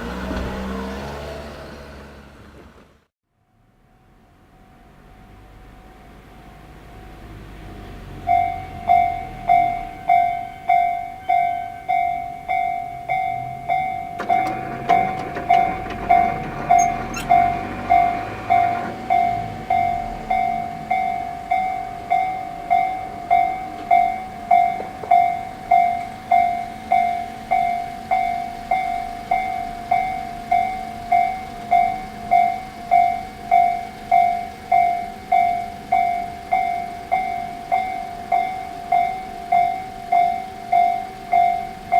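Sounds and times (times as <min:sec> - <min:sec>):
level crossing alarm dinging: 0:08.3 - 0:41.9.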